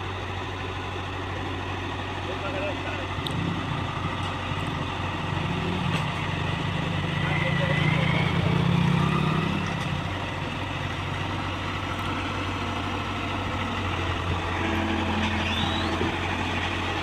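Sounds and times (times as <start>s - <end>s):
heavy diesel engine idling: 0.0s - 8.7s, 9.7s - 17.0s.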